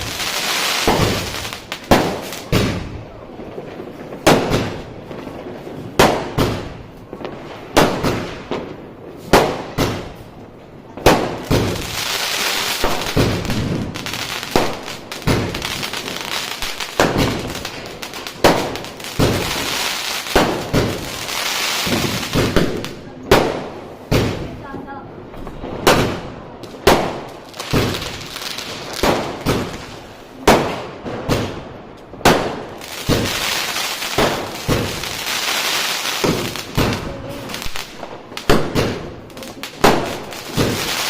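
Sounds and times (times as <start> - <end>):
crackling firework hiss: 0.0 - 10.4, 11.0 - 24.6, 25.8 - 41.0
firework bangs: 0.0 - 41.0.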